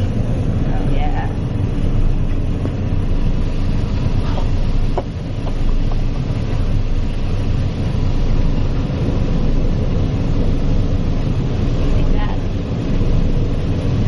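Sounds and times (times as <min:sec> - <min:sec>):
combine harvester rumble: 0:00.0 - 0:14.0.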